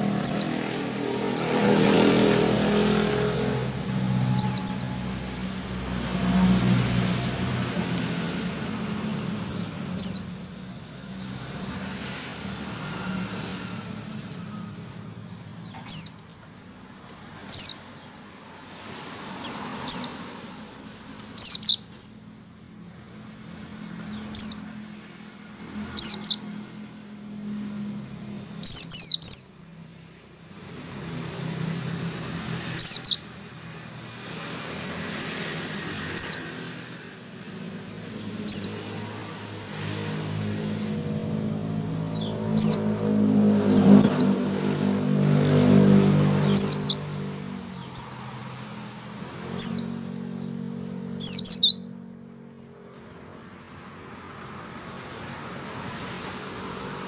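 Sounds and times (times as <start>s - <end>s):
bird chirping calls: 0.0s - 20.4s, 21.2s - 24.8s, 25.7s - 29.7s, 31.3s - 33.4s, 34.4s - 53.8s.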